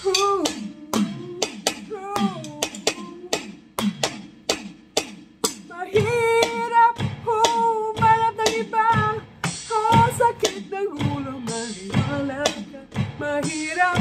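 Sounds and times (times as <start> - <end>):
woman singing: 0.0 - 3.6, 5.6 - 14.0
clicking drum beat: 0.0 - 14.0.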